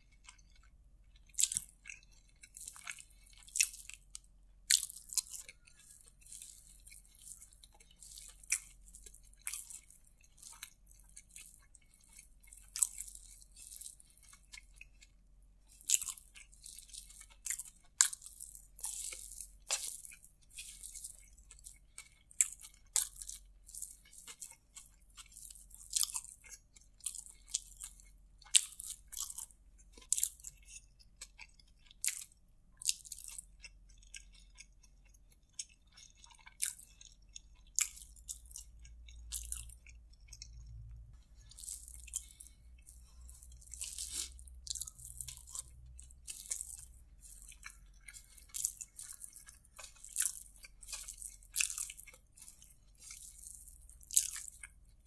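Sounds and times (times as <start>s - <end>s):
close chewing mouth sounds: 0.0s - 55.0s.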